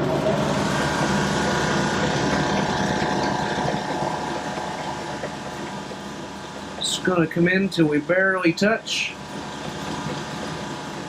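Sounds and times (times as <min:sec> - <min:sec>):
lathe running: 0:00.0 - 0:11.0.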